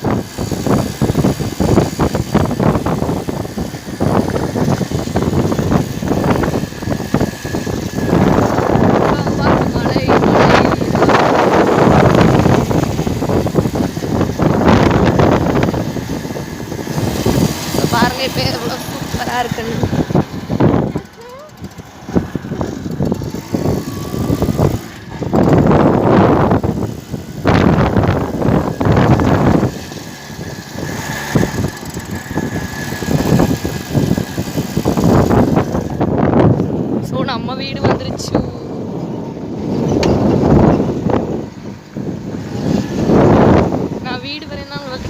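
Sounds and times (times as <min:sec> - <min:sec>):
loud uneven rattling: 0:00.0 - 0:36.8
moving vehicle running noise: 0:00.0 - 0:45.0
road noise: 0:00.0 - 0:45.0
wind buffeting microphone: 0:00.0 - 0:45.0.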